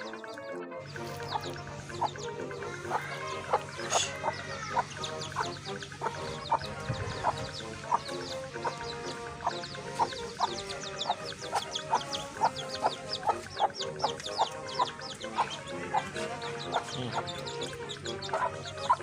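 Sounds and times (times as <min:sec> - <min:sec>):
background music: 0:00.0 - 0:19.0
chicks peeping: 0:00.0 - 0:19.0.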